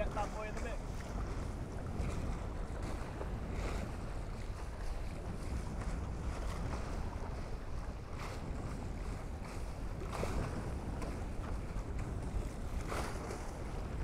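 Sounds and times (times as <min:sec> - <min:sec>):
water rushing along hulls: 0:00.0 - 0:14.0
wind rumbling on microphone: 0:00.0 - 0:14.0.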